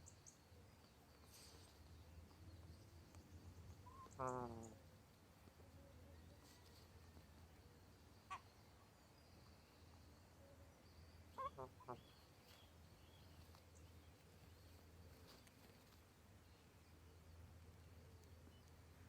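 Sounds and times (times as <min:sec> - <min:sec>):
faint steady low hum: 0:00.0 - 0:19.0.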